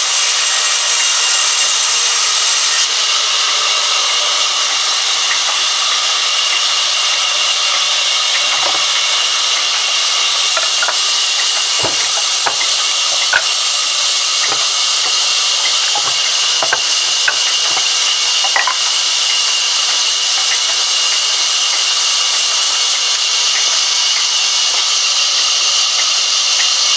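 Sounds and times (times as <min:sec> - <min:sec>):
band saw cutting log: 0:00.0 - 0:23.7.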